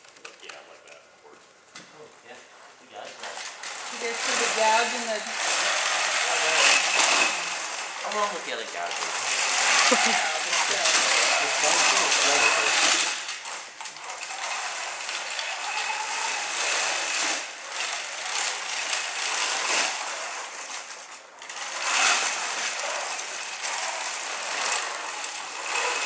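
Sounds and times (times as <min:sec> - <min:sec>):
robot motors whirring: 0:03.2 - 0:26.0.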